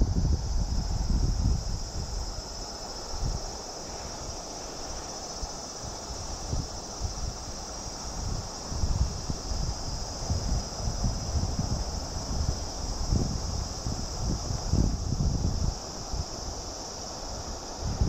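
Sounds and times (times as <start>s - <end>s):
wind buffeting microphone: 0.0s - 4.4s, 5.0s - 16.8s, 17.7s - 18.0s
insects chirring: 0.0s - 18.0s.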